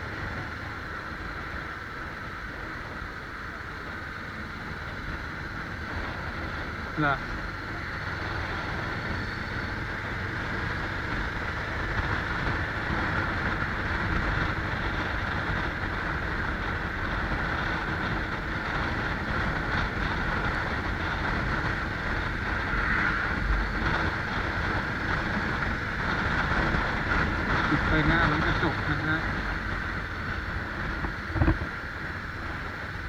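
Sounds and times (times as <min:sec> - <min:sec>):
moving vehicle drone: 0:00.0 - 0:33.0
wind rushing: 0:05.2 - 0:33.0.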